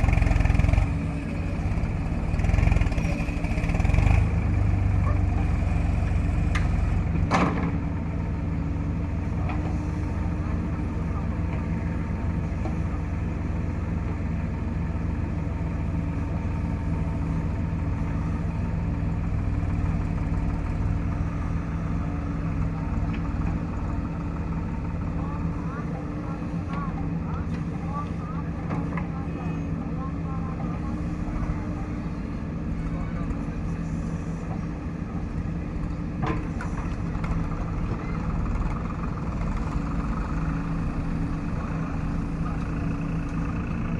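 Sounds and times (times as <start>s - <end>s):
diesel engine droning: 0.0s - 43.9s.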